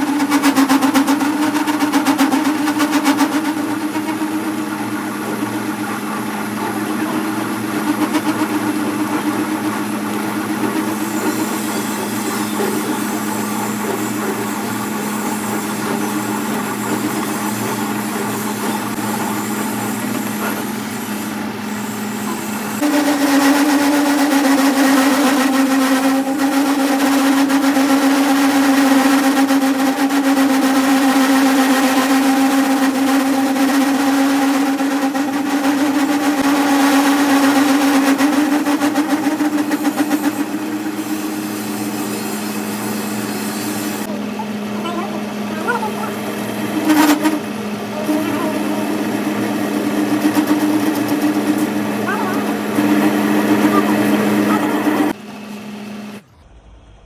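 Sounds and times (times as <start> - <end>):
workshop machine humming: 0.0 - 57.0.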